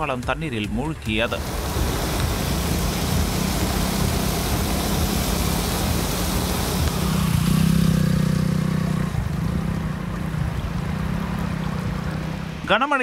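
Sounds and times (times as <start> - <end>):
vehicle engine running: 1.0 - 12.8
steady rushing noise: 1.0 - 13.0.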